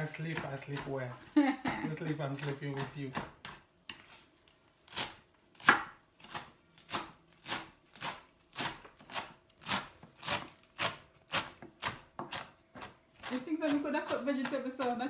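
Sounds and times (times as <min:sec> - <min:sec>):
knife chopping vegetables on board: 0:00.0 - 0:04.1, 0:04.9 - 0:15.0.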